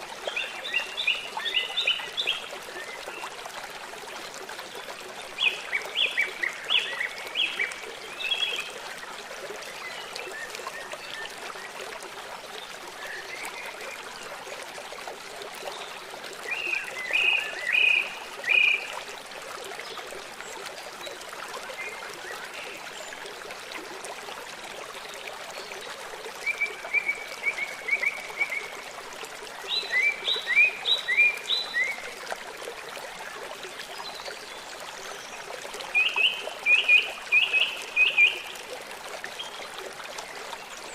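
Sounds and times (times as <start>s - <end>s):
river water running: 0.0s - 40.9s.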